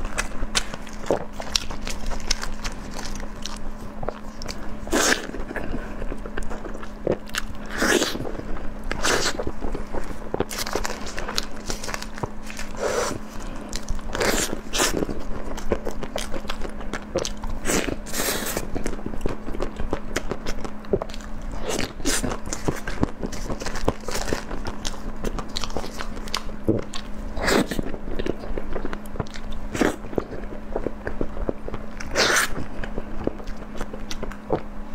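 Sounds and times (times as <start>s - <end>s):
wet chewing: 0.0s - 34.7s
faint steady hum: 0.0s - 34.9s.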